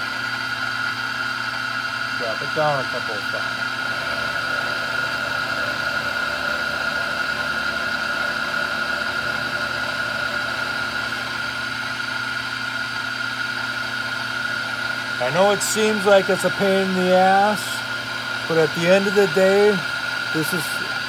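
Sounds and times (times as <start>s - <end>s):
milling machine running: 0.0s - 21.0s.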